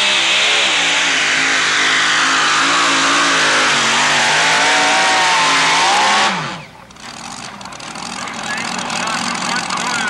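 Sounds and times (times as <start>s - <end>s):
engine winding down: 0.0s - 10.0s
truck engine at full throttle: 0.0s - 10.0s.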